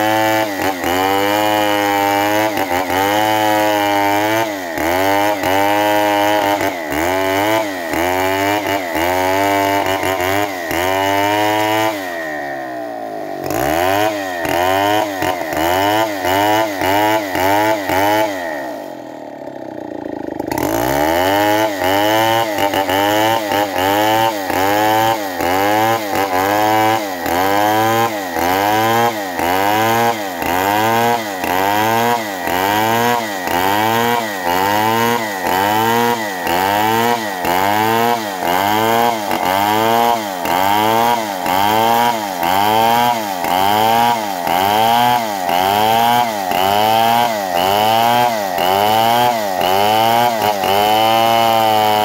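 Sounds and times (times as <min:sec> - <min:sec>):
chainsaw cutting log: 0:00.0 - 0:52.0.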